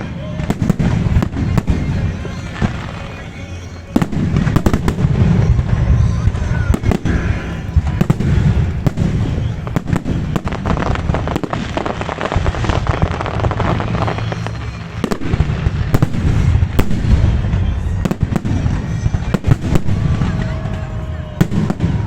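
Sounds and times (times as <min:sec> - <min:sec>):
fireworks shells bursting: 0:00.0 - 0:22.0.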